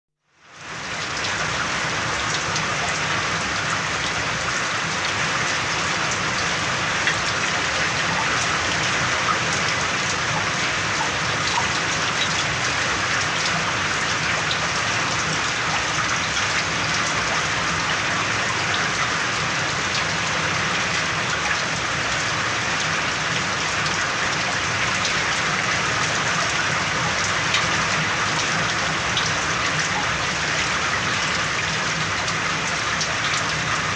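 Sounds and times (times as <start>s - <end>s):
heavy rainfall: 0.2s - 33.9s.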